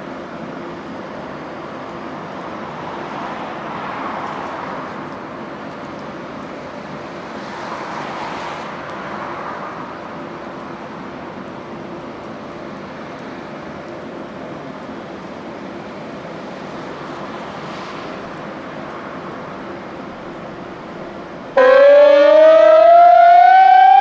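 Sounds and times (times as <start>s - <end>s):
vehicles passing by: 1.6s - 24.0s.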